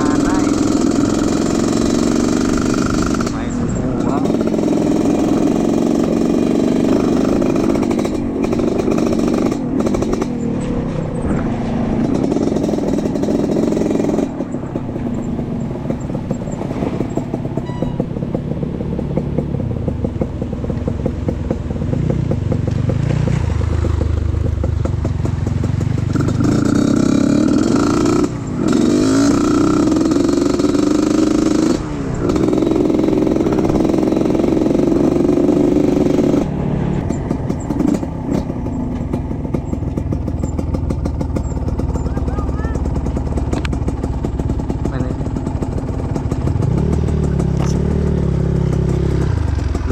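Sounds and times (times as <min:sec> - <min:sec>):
motorbike engine revving: 0:00.0 - 0:49.9.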